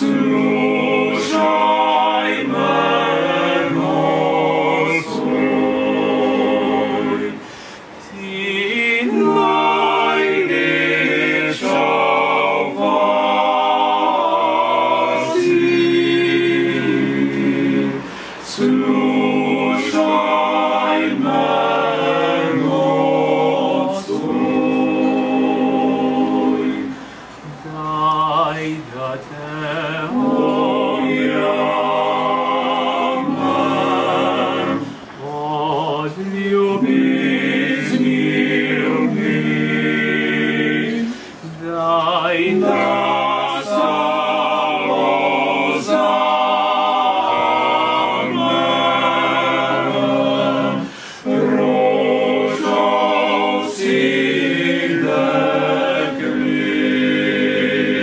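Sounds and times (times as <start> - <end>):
men singing a cappella: 0.0 - 58.0.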